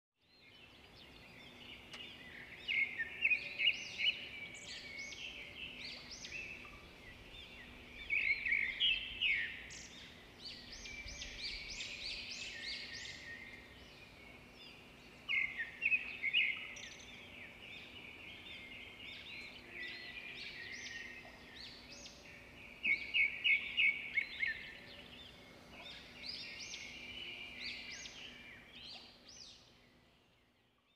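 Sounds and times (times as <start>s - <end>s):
songbirds singing and chirping: 0.2s - 30.9s.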